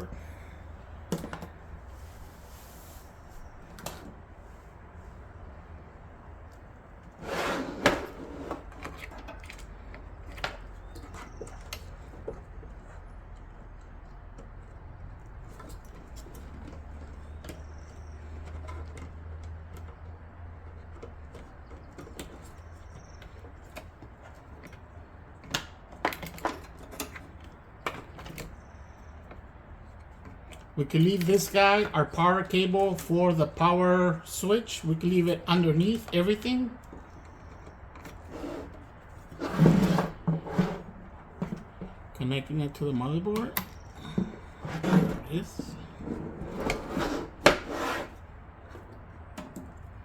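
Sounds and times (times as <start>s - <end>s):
cables and plastic connectors handled: 8.5s - 50.0s.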